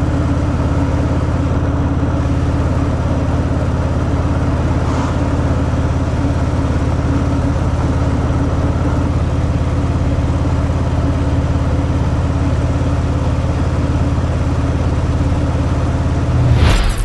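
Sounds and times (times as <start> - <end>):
motorcycle engine running steadily: 0.0 - 16.3.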